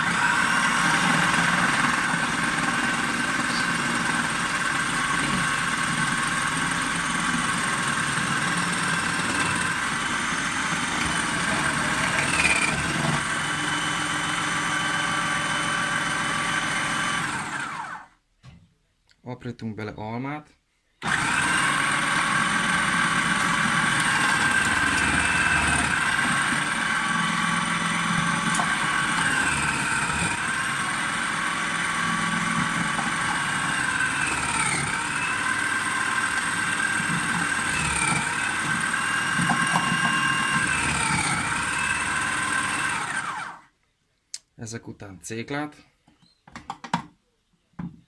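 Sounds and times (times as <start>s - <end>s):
electric food chopper whining: 0.0s - 18.2s, 21.0s - 43.7s.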